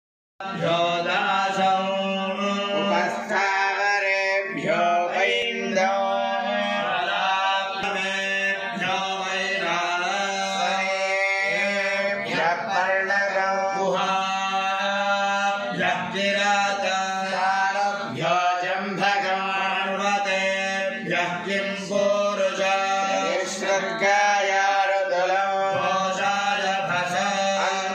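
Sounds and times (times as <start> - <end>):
person chanting mantras: 0.4 - 27.9.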